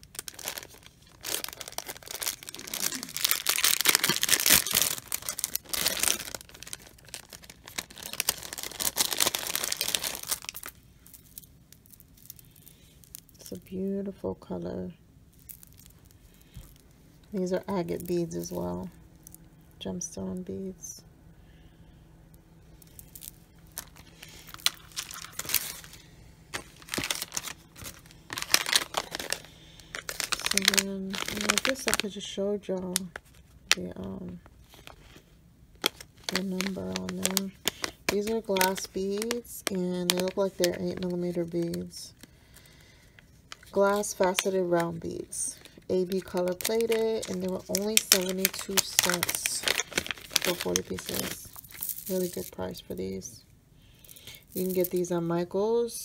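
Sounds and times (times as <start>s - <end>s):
plastic bag crinkling: 0.0s - 13.8s, 15.3s - 19.5s, 22.7s - 53.2s, 54.0s - 55.2s.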